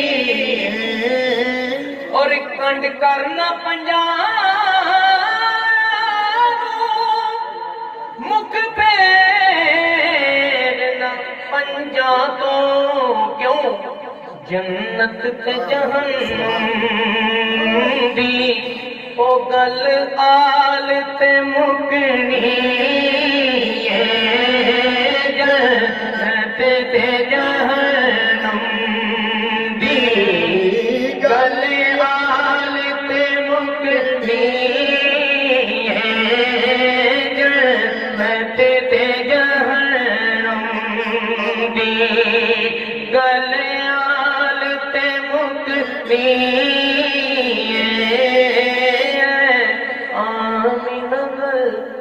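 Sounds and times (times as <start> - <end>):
man singing through a microphone: 0.0 - 52.0.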